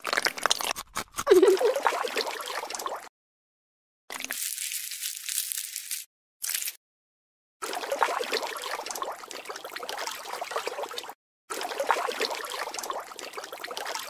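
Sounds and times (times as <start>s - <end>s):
trickling crackling liquid: 0.0s - 3.1s, 4.1s - 6.8s, 7.6s - 14.0s.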